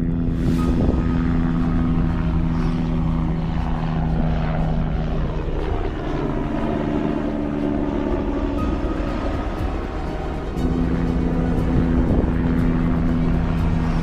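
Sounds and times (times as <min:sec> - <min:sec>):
electric motor humming: 0:00.0 - 0:14.0.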